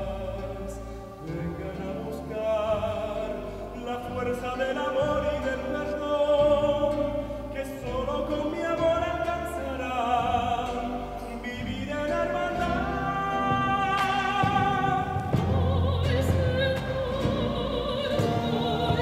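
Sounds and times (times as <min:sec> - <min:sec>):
man singing with vibrato: 0:00.0 - 0:19.0
small string instrument: 0:00.0 - 0:19.0.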